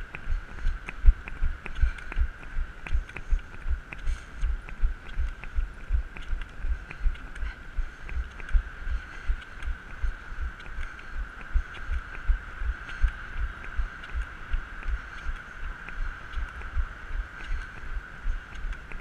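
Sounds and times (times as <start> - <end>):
high hum: 0.0 - 19.0.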